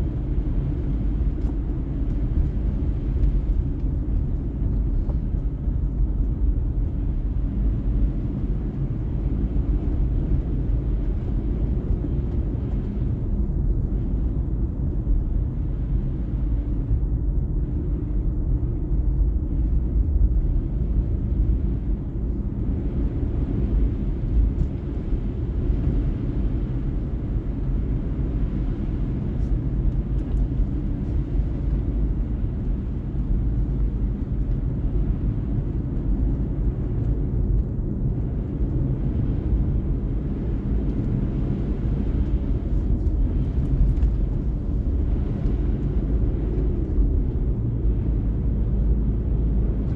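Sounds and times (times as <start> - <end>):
car engine rumble: 0.0 - 49.9
road noise: 0.0 - 49.9.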